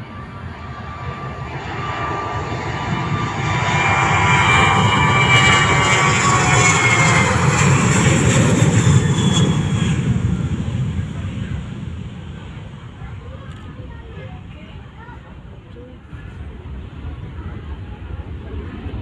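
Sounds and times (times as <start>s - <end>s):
jet engines roaring past: 0.0s - 19.0s.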